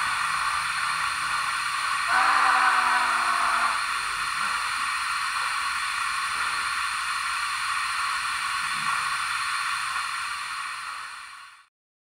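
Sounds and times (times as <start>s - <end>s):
simulated steam hiss: 0.0s - 11.7s.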